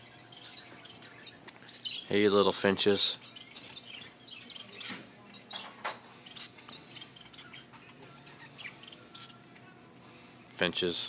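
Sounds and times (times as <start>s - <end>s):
finches chirping: 0.0s - 11.0s.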